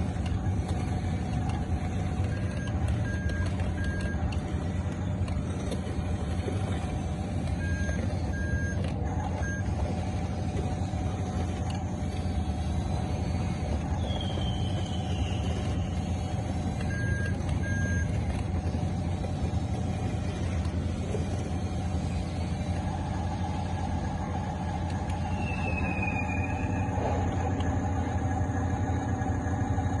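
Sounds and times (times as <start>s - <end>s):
model bulldozer motor hum: 0.0s - 30.0s.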